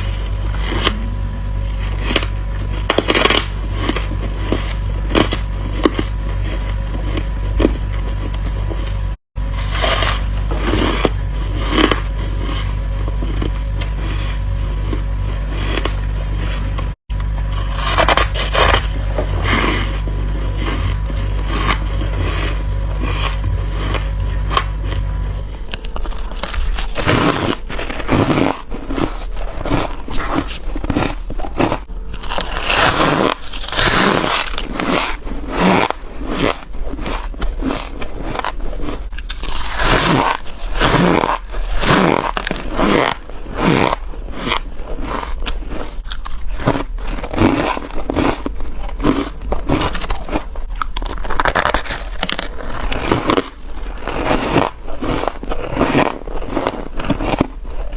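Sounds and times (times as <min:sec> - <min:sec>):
frost being chewed: 0:00.0 - 0:57.9.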